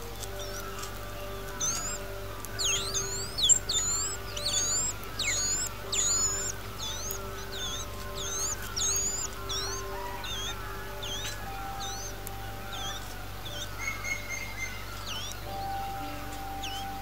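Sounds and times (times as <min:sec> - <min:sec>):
bird chirping: 0:00.0 - 0:17.0
soft background music: 0:00.0 - 0:17.0.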